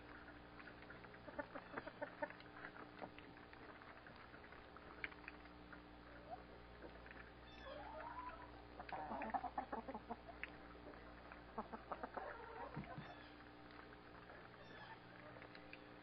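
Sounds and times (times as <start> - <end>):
chickens clucking: 0.0 - 3.3, 5.1 - 16.0
faint hum: 0.0 - 16.0.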